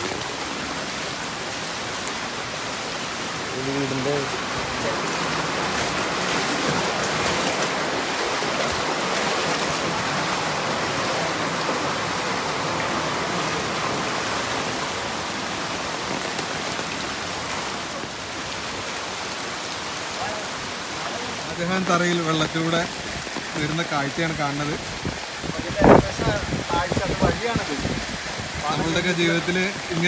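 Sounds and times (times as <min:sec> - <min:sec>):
floodwater running across ground: 0:00.0 - 0:30.0
heavy rain: 0:00.0 - 0:30.0.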